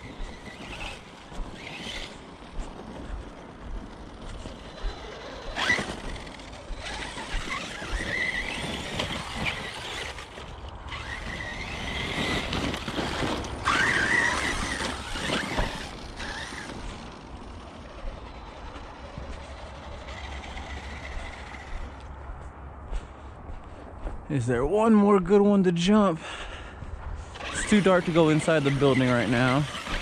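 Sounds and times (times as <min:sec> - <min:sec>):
electric motor whining: 0:00.0 - 0:22.1, 0:27.3 - 0:30.0.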